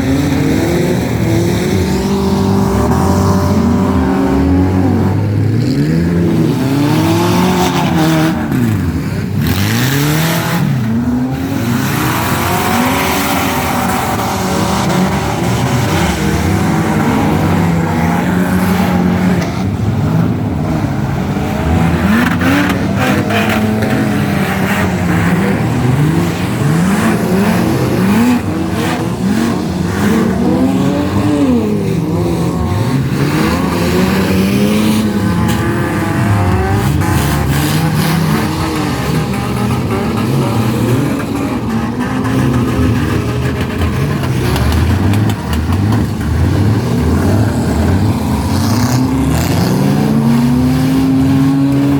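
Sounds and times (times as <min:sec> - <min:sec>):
car engines revving hard: 0:00.0 - 0:51.9.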